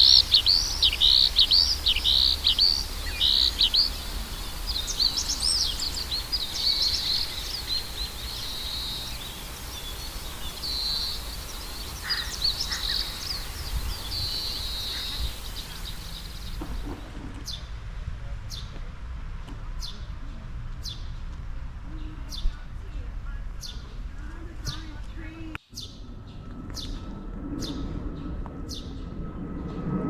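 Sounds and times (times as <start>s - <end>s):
low steady rumble: 0.0s - 30.0s
songbirds chirping and trilling: 0.0s - 30.0s.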